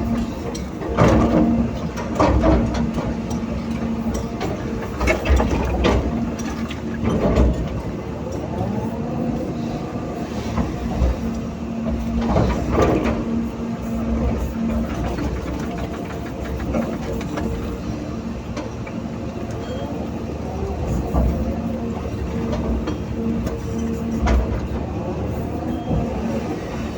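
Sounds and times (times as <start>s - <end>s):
diesel excavator engine rumble: 0.0s - 26.9s
excavator scraping: 0.0s - 26.9s.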